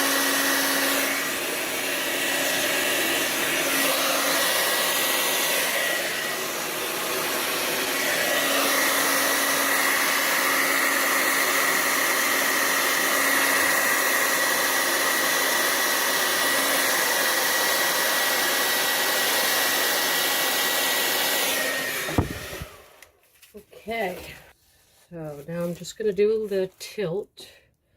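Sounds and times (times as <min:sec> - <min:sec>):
hair dryer blowing: 0:00.0 - 0:23.2.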